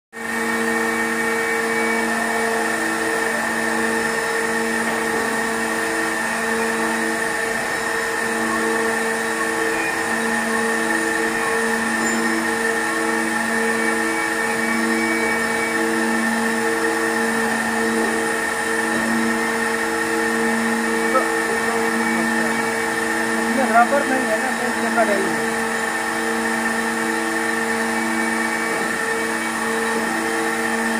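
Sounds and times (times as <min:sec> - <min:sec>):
rock drilling rig droning: 0:00.2 - 0:30.9.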